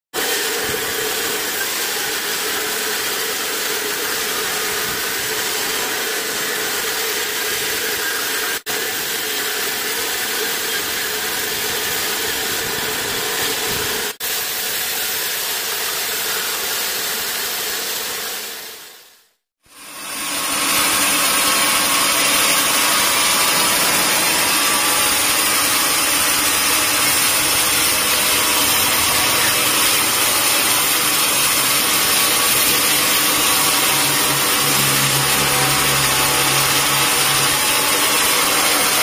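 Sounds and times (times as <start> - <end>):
band saw cutting log: 0.2 - 19.0, 19.7 - 39.0.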